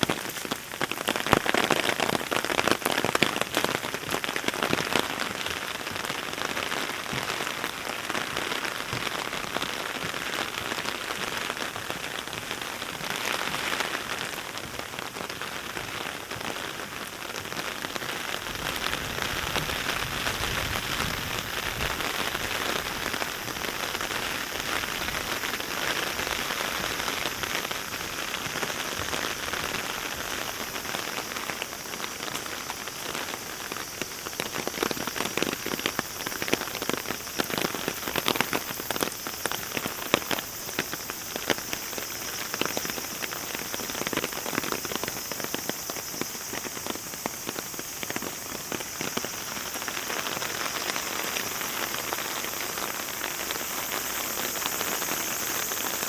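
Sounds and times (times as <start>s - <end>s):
close raindrops ticking: 0.0s - 56.0s
heavy rain falling: 0.0s - 56.0s.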